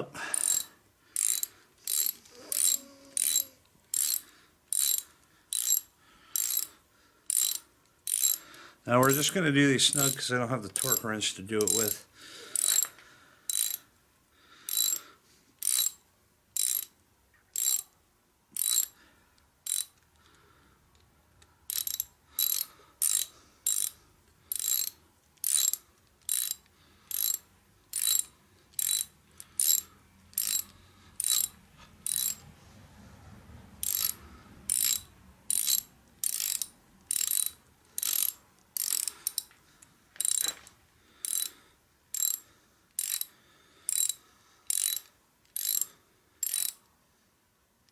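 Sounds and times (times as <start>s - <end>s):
ratchet wrench clicking: 0.3s - 9.3s, 9.9s - 13.8s, 14.7s - 16.0s, 16.6s - 17.0s, 17.6s - 18.0s, 18.6s - 19.0s, 19.6s - 20.0s, 21.7s - 32.4s, 33.8s - 39.5s, 40.2s - 40.6s, 41.2s - 46.9s.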